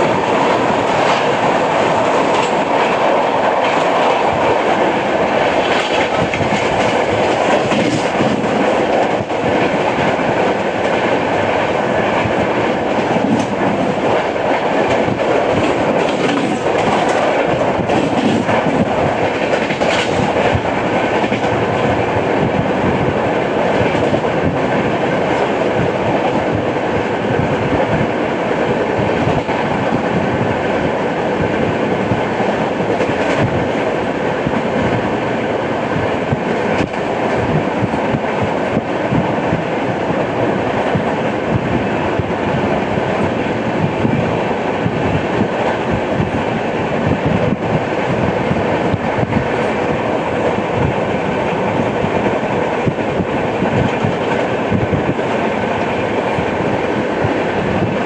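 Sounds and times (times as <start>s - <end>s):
clickety-clack from track: 0.0s - 58.0s
train wheels rumbling on rails: 0.0s - 58.0s.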